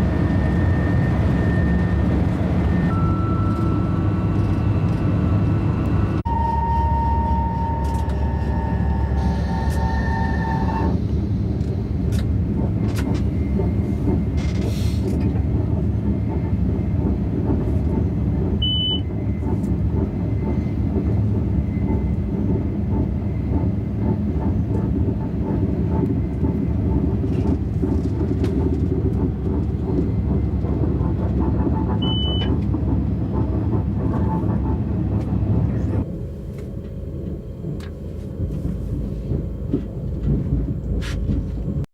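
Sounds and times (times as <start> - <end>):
high-speed train rumble: 0.0 - 41.9.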